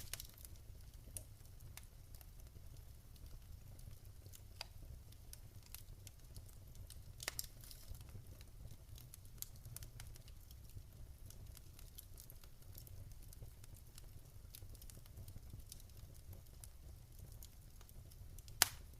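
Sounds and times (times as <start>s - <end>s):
fire crackling and popping: 0.0s - 18.9s
fire rumbling: 0.0s - 18.9s.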